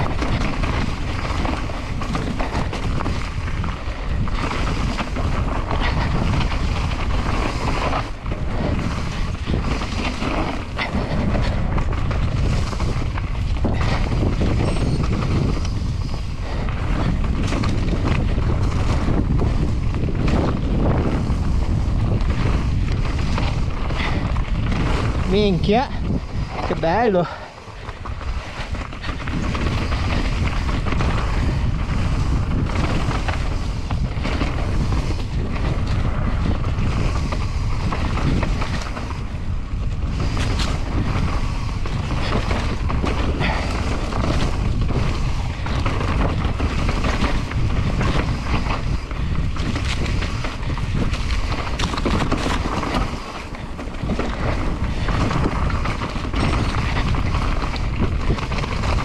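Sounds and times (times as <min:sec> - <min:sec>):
bike rattling and knocking: 0:00.0 - 0:59.0
wind buffeting microphone: 0:00.0 - 0:59.0.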